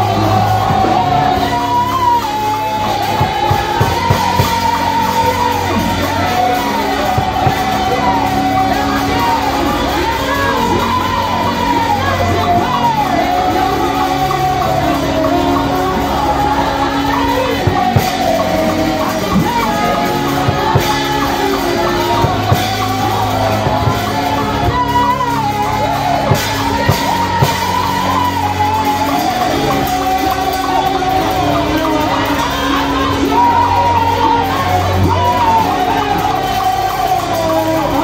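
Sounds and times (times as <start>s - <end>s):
instrumental backing music: 0.0s - 38.0s
people shouting: 0.0s - 38.0s
person singing into microphone: 0.0s - 38.0s.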